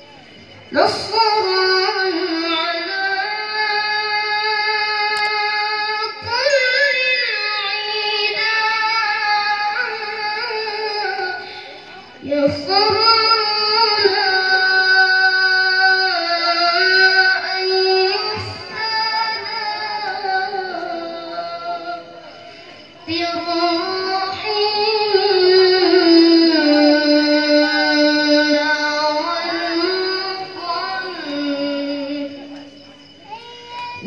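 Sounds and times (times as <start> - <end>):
boy reciting melodically over pa: 0.0 - 34.0.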